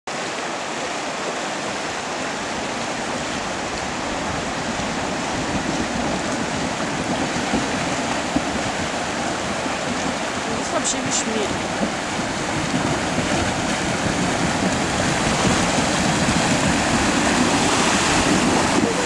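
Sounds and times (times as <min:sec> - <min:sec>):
river rushing over stones: 0:00.1 - 0:19.0.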